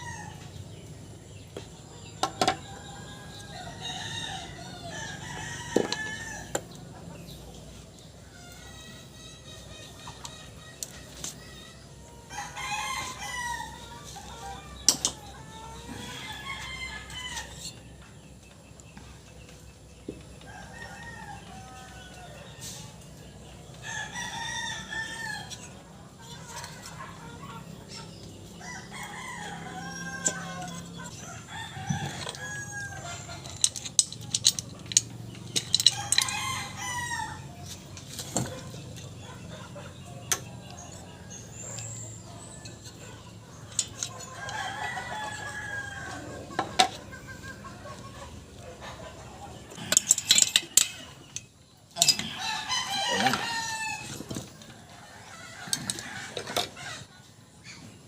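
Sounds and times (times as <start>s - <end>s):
roosters crowing: 0.0s - 58.0s.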